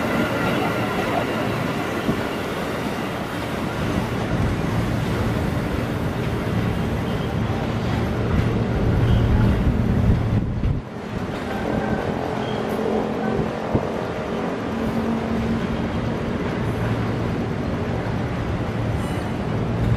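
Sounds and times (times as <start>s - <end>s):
train wheels rumbling over rails: 0.0s - 19.9s.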